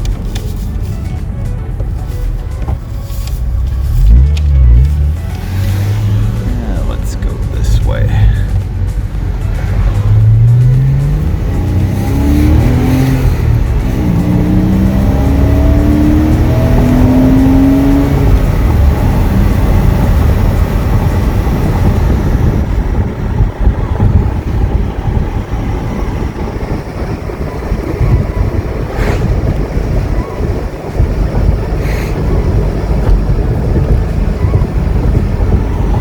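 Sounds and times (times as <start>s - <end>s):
car engine accelerating: 0.0s - 36.0s
road and tyre rumble: 0.0s - 36.0s.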